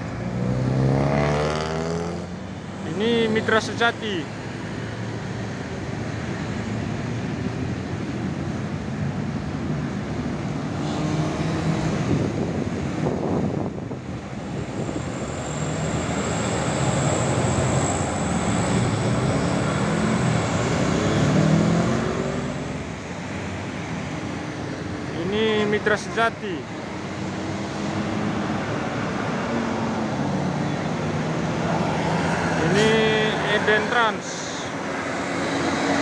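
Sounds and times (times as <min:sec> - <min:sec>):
diesel bus passing: 0:00.0 - 0:36.0
motorcycles passing: 0:00.0 - 0:36.0
steady traffic noise: 0:00.0 - 0:36.0.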